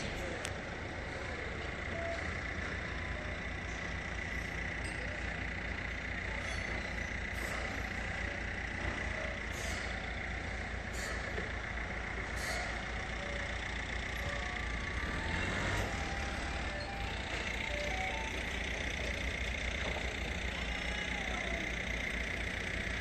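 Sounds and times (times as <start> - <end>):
truck engine rumble: 0.0 - 23.0.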